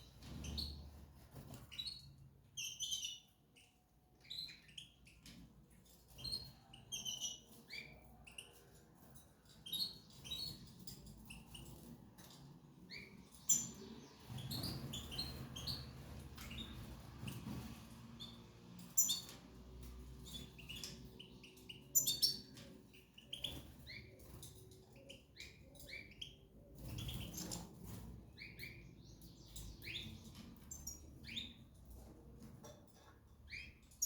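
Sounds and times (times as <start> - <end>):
cage birds chirping: 0.0 - 34.0.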